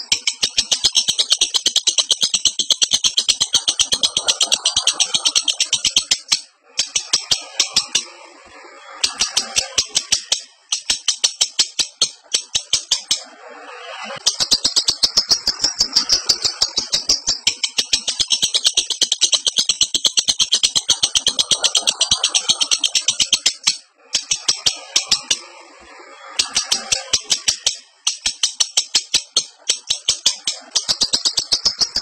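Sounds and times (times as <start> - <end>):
lovebird chattering trill: 0.0 - 8.2, 8.9 - 25.4, 26.3 - 32.0.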